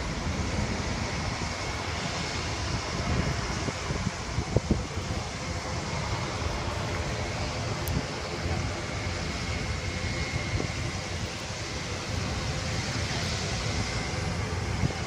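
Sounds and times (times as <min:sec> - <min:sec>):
aircraft engines rushing: 0:00.0 - 0:15.0
faint high engine whine: 0:00.0 - 0:15.0.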